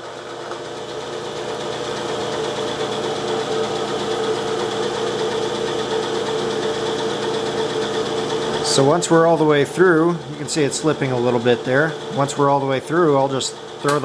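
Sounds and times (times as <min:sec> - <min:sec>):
milling machine humming and whining: 0:00.0 - 0:14.0.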